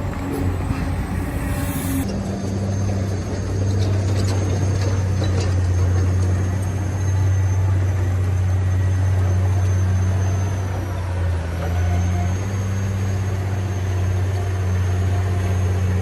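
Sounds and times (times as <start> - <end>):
low engine-like drone: 0.0 - 16.0.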